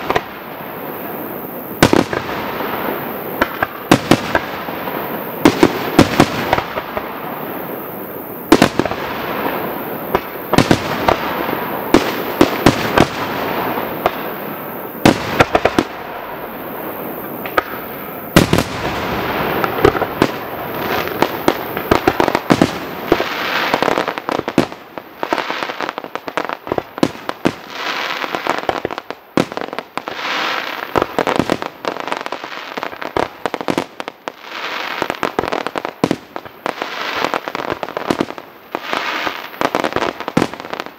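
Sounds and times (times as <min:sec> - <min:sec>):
firework bangs: 0:00.0 - 0:40.9
firework crackle: 0:00.0 - 0:40.9.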